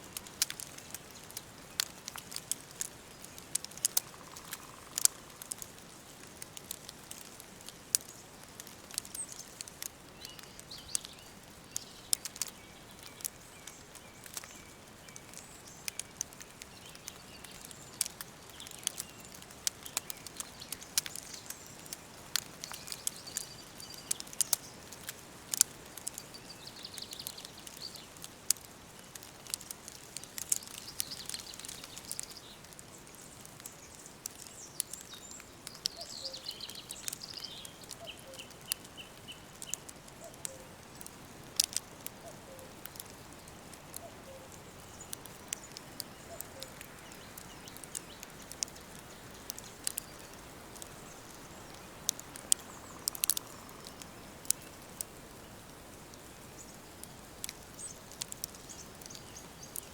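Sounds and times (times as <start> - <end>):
faint steady hiss: 0.0 - 59.9
songbirds singing: 0.0 - 59.9
wood fire crackling: 0.0 - 59.9.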